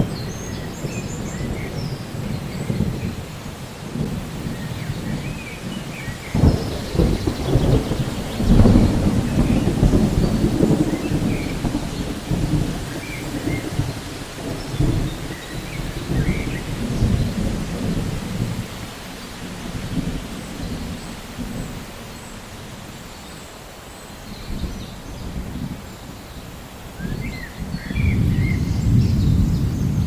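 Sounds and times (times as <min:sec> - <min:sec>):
thunder crack and rumble: 0:00.0 - 0:22.0, 0:24.5 - 0:30.0
steady rain: 0:00.0 - 0:30.0.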